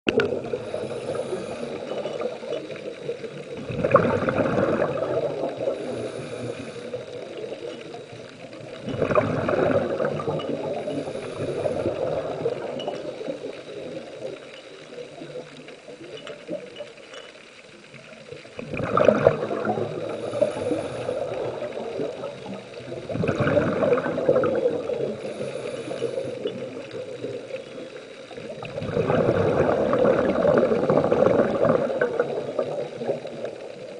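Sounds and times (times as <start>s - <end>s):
dull underwater rumble: 0.1s - 33.9s
exhaled bubbles underwater: 0.1s - 33.9s.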